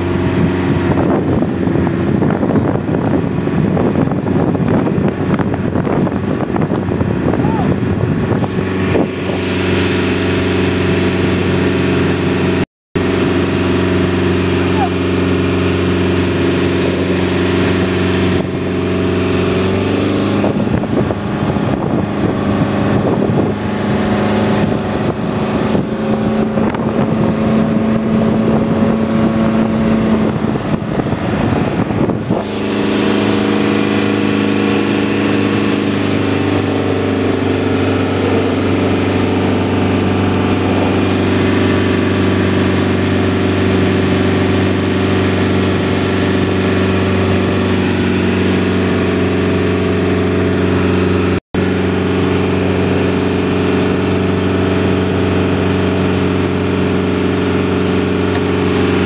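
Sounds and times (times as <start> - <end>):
boat engine running: 0.0 - 59.0
rough rushing noise: 0.0 - 59.0.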